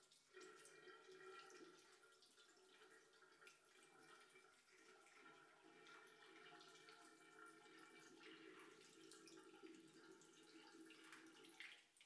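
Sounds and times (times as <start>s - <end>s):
water trickling into pot: 0.0s - 12.0s.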